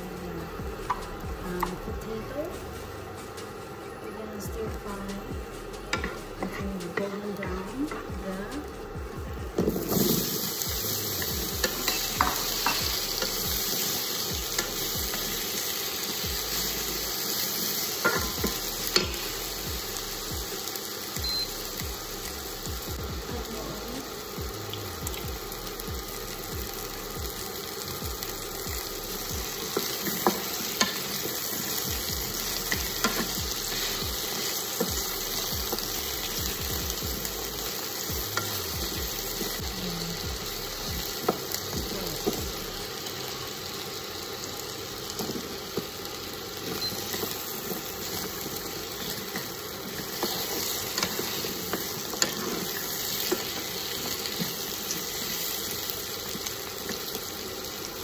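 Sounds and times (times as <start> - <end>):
potatoes sizzling in a pan: 0.0 - 58.0.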